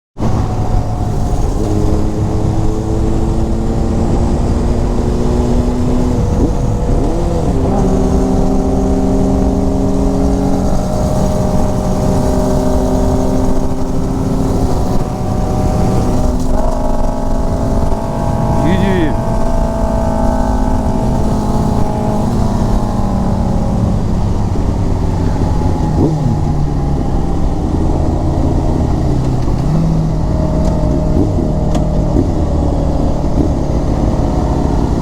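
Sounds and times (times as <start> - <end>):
motorcycle engines running: 0.2 - 35.0
wind and road noise: 0.2 - 35.0.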